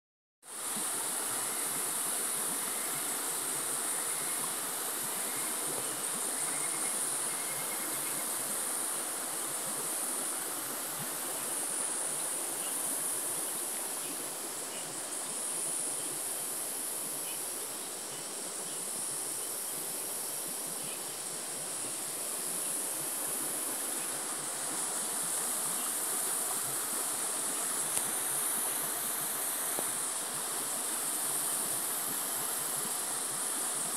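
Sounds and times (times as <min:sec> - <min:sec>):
insects buzzing shrilly: 0:00.5 - 0:33.9.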